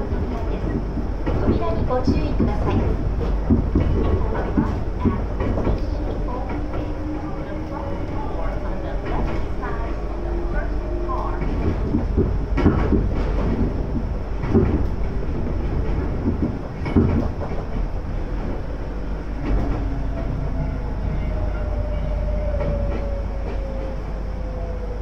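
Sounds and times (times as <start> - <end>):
train interior low rumble: 0.0 - 25.0.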